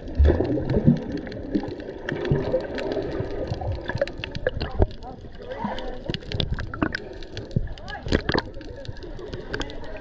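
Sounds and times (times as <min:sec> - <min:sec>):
muffled underwater bubbling: 0:00.0 - 0:10.0.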